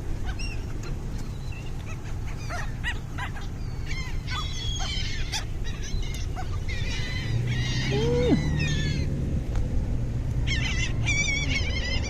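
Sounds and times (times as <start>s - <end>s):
water birds squawking: 0.0s - 9.2s, 10.4s - 12.0s
steady low rumble: 0.0s - 12.0s.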